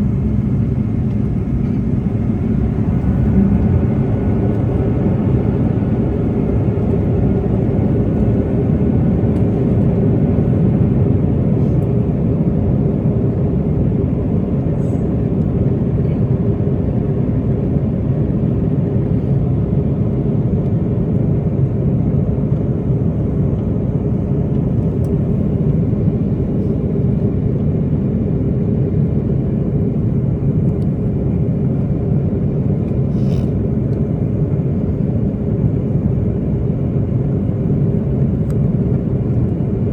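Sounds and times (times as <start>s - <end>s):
aircraft engine drone: 0.0s - 39.9s
airflow rumble: 0.0s - 39.9s
constant low hum: 0.0s - 39.9s.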